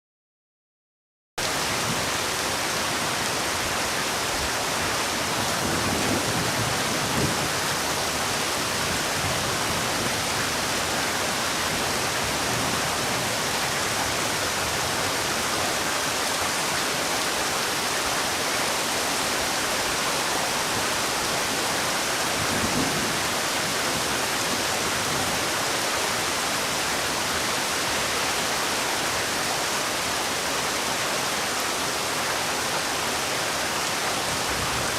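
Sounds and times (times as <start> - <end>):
heavy rain falling: 1.4 - 34.9.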